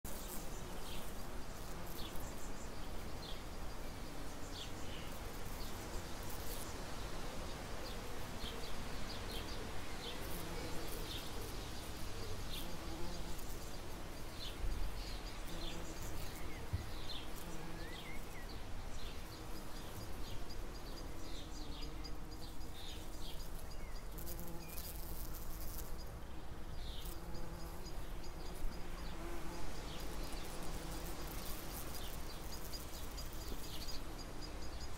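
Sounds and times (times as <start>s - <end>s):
bumblebees buzzing: 0.1s - 34.9s.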